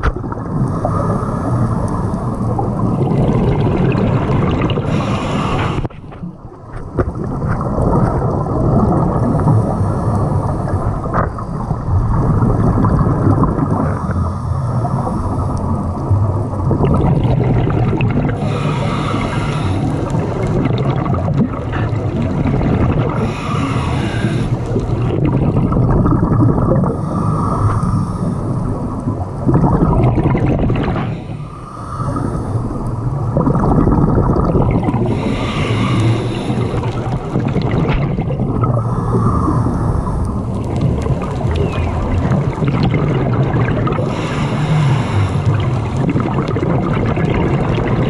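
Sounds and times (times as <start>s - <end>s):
regulator bubbling bursts: 0.0s - 5.9s, 7.0s - 27.2s, 28.6s - 31.5s, 32.6s - 48.0s
low underwater rumble: 0.0s - 48.0s.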